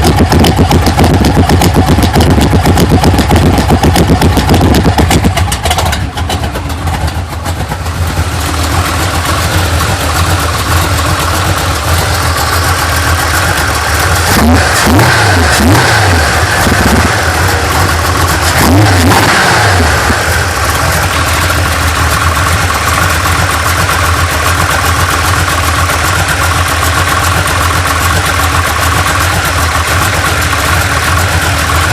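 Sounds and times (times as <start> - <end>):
car engine revving and idling: 0.0 - 31.9.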